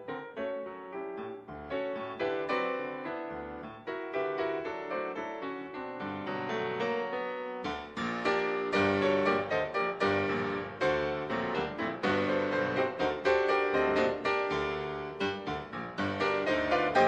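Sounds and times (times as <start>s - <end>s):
piano notes and chords: 0.0s - 17.0s.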